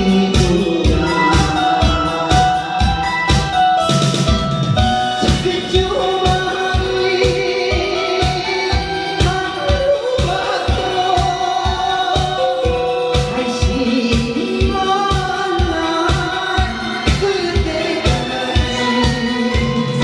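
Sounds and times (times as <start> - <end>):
person singing: 0.0 - 4.1, 4.9 - 20.0
backing track with bass beats: 0.0 - 20.0.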